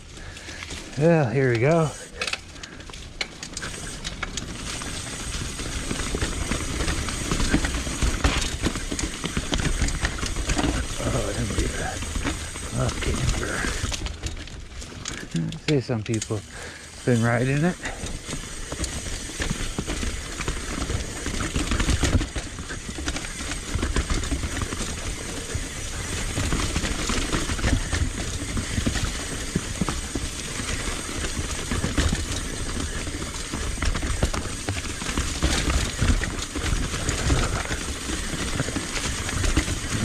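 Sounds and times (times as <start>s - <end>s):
bike rattling over bumps: 0.0s - 40.0s
tyres crunching on dirt trail: 0.0s - 40.0s.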